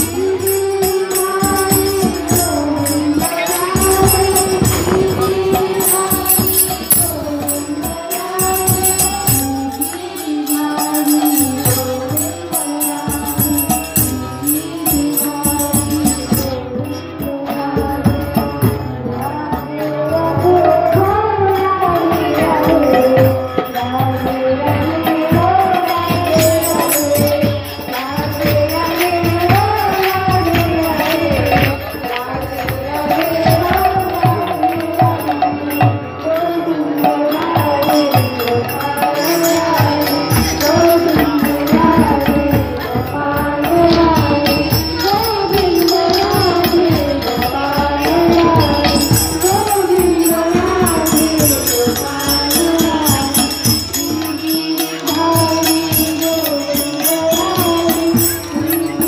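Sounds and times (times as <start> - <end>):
harmonium: 0.0 - 59.0
percussion beat: 0.0 - 59.0
women singing a chant: 0.0 - 59.0.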